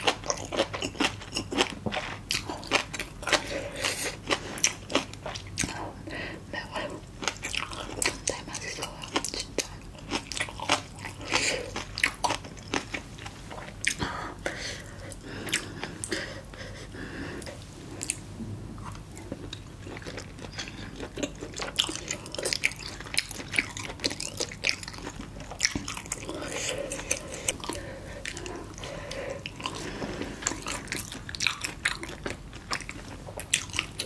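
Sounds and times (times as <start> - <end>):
chewing with wet crunches: 0.0 - 5.8, 7.2 - 14.2, 19.2 - 34.0.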